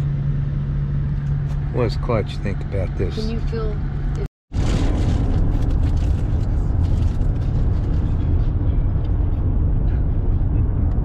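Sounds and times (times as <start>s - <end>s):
road noise inside truck cab: 0.0s - 11.0s.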